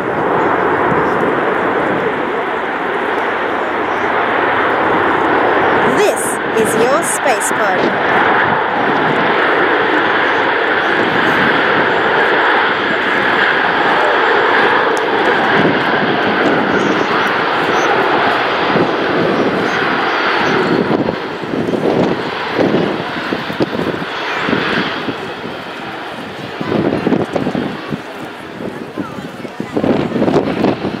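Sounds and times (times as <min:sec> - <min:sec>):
jet engines running loud: 0:00.0 - 0:31.0.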